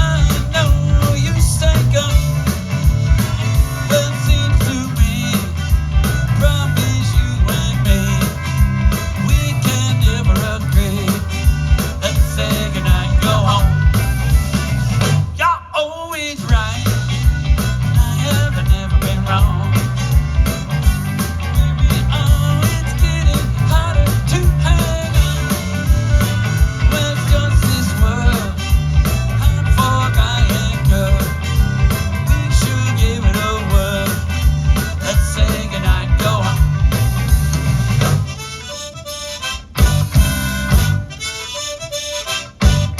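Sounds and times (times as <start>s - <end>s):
upbeat rock and roll song: 0.0s - 42.9s.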